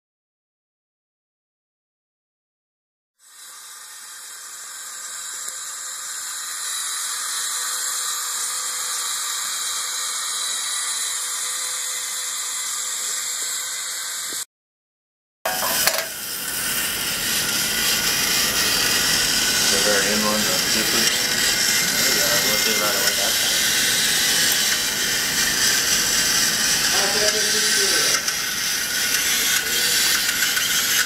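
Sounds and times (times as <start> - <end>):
small electric motors whirring: 3.2 - 14.4, 16.2 - 31.0.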